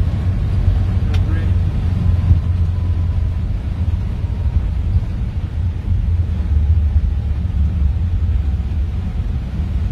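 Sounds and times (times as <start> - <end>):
airplane rolling on runway: 0.0 - 9.9.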